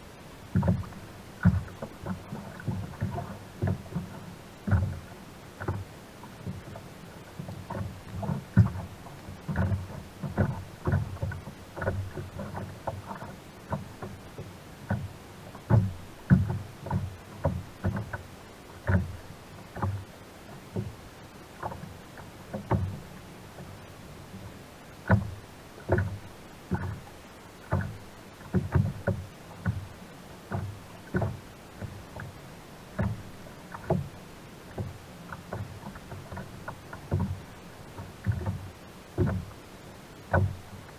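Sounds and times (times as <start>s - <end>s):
waves slapping kayak hull: 0.0s - 40.9s.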